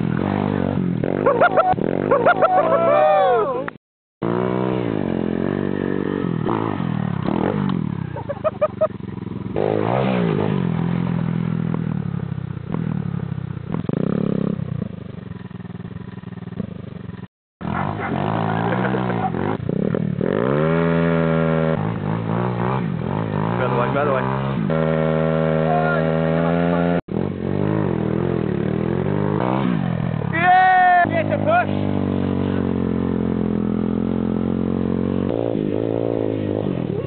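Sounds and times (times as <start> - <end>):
motorbike engine revving: 0.0 - 3.5, 4.2 - 37.0.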